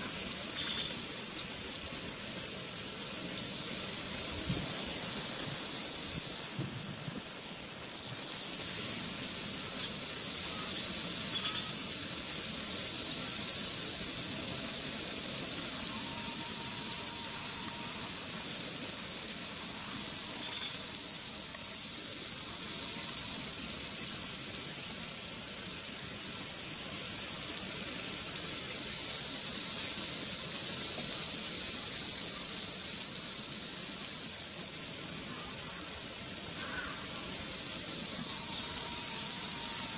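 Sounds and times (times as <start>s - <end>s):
insects shrilling: 0.0s - 39.9s.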